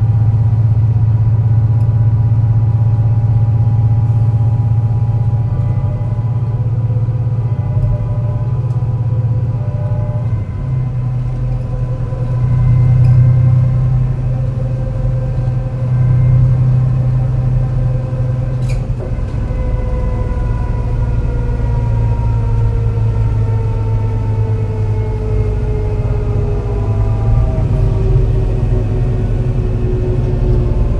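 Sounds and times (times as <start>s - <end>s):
bus engine drone with misfire: 0.0s - 30.9s
gearbox whine: 3.4s - 30.9s.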